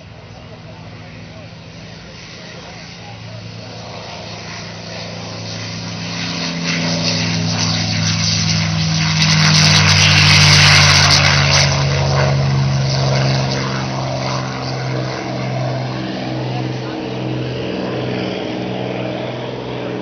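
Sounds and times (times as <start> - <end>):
propeller plane engine roaring past: 0.0 - 20.0.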